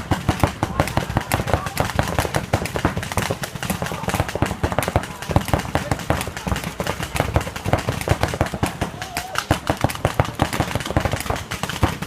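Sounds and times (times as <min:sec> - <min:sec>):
paintball markers firing: 0:00.0 - 0:12.0
voices: 0:00.0 - 0:12.0.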